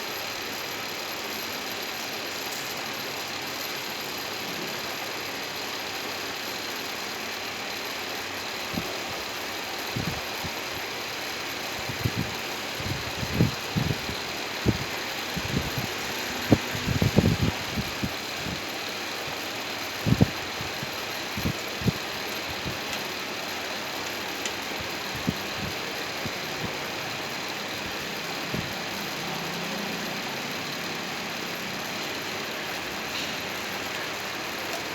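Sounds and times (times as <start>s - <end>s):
workshop machinery running: 0.0s - 34.9s.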